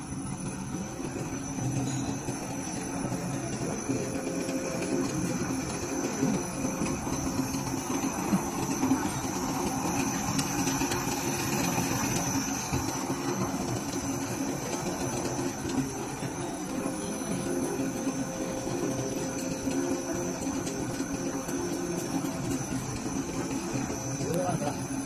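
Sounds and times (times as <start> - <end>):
laminating machine humming: 0.0 - 25.0
thin high tone: 0.0 - 25.0.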